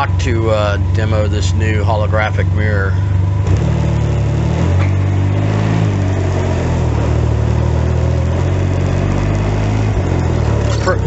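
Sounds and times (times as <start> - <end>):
three-wheeler engine pulling away: 0.0 - 11.0.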